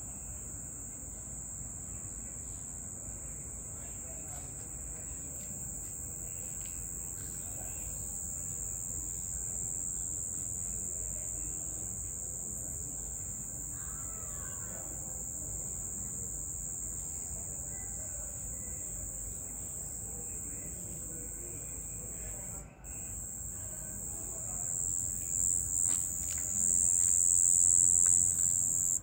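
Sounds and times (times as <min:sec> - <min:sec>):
crickets trilling: 0:00.0 - 0:29.0.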